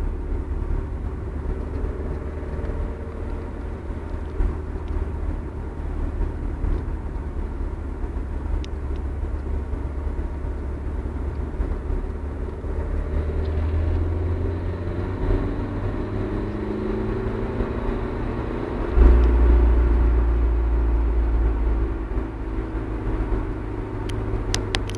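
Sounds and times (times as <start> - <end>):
car engine low rumble: 0.0 - 24.9.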